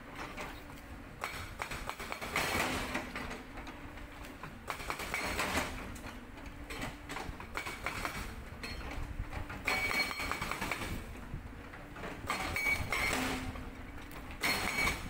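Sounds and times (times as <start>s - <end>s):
hydraulic rock breaker rattling: 0.0s - 15.0s.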